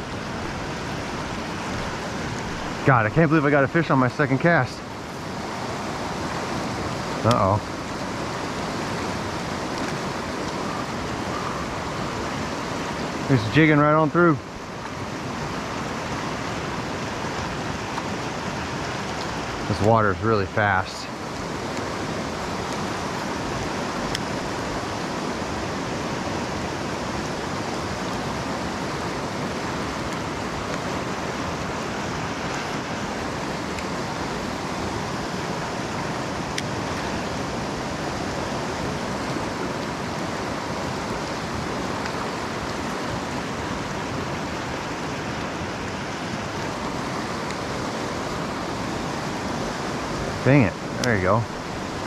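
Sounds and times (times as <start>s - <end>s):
river water rushing over stones: 0.0s - 52.0s.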